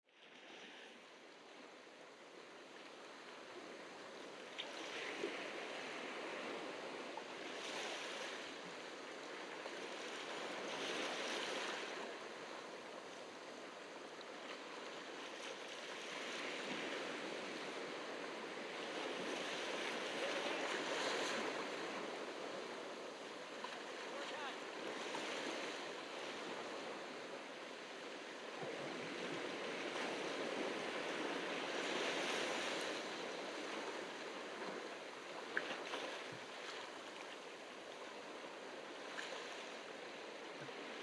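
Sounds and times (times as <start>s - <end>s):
ocean waves breaking on beach: 0.1s - 41.0s.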